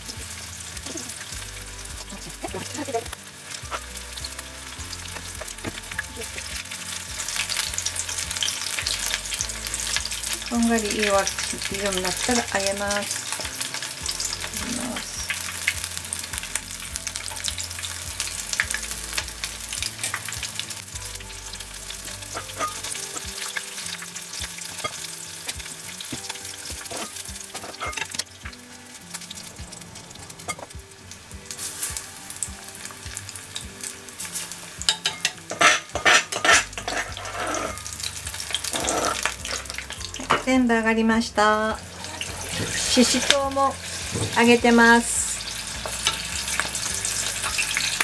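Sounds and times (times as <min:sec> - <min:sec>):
food deep-frying in oil: 0:00.0 - 0:48.0.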